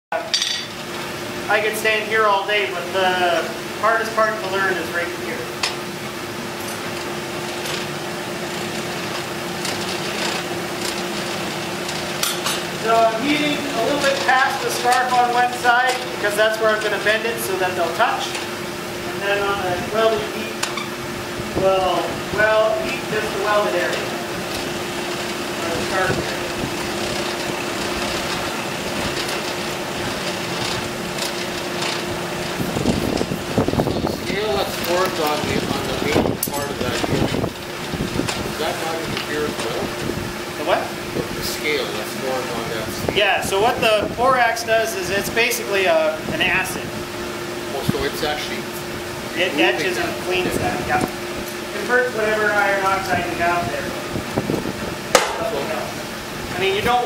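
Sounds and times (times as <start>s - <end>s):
air blower humming: 0.1s - 57.0s
forge fire rushing: 1.0s - 57.0s.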